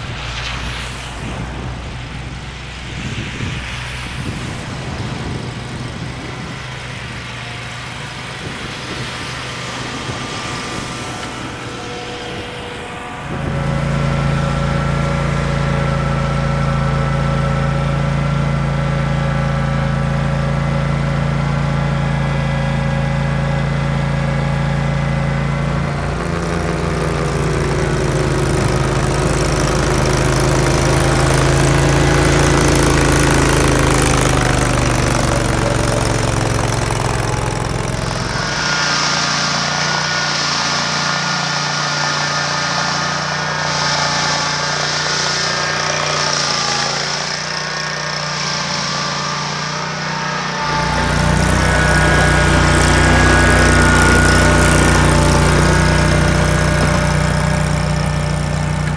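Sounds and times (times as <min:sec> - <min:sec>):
snow vehicle engine running: 0:00.0 - 0:58.9.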